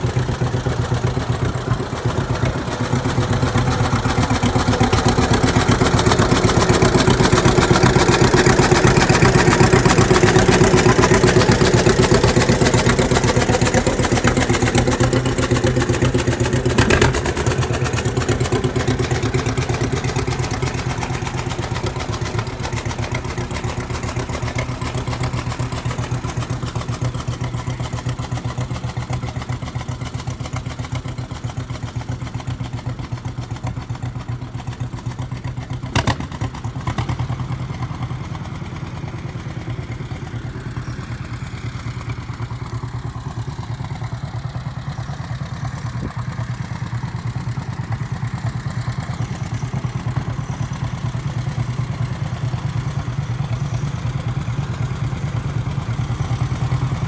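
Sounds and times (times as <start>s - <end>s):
tractor engine popping: 0.0s - 57.0s.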